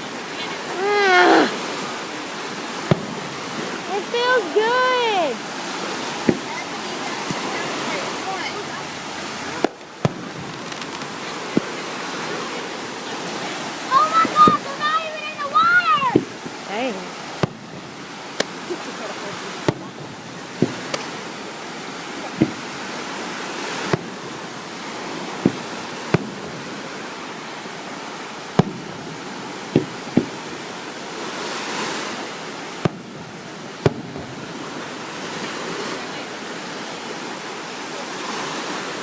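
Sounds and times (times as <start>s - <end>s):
ocean surf: 0.0s - 39.0s
fireworks banging: 0.7s - 36.1s.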